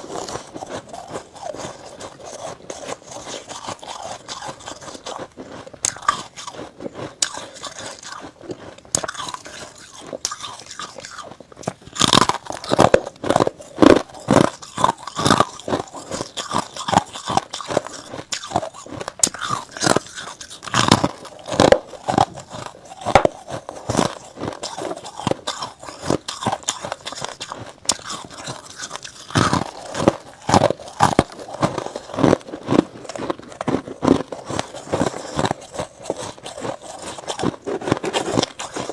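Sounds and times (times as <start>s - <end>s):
crunching frost being chewed: 0.0s - 38.9s.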